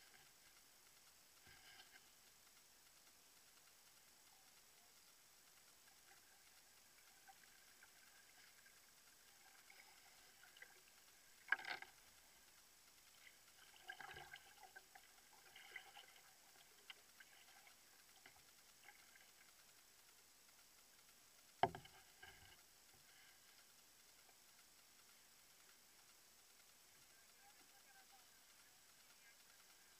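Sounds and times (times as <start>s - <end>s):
water dripping and lapping: 0.0s - 29.9s.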